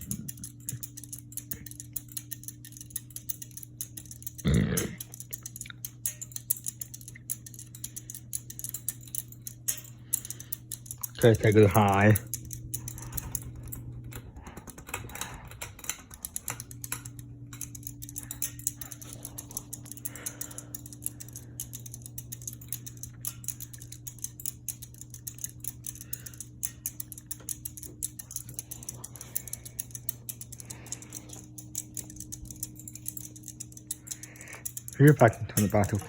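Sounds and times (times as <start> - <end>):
ceiling fan motor hum: 0.0 - 36.0
rapid light ticking: 0.0 - 36.0.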